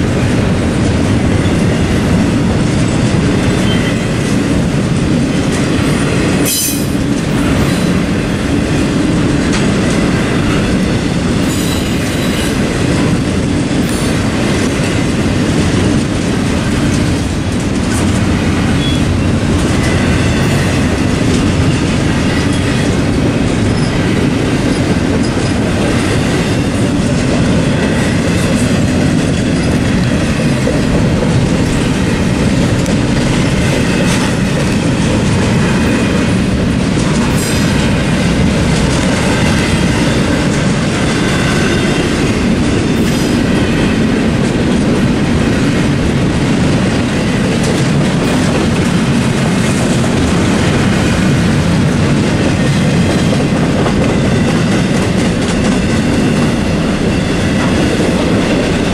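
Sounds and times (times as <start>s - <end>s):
freight train wheels rumbling: 0.0s - 58.9s
wheels clicking over rail joints: 0.0s - 58.9s.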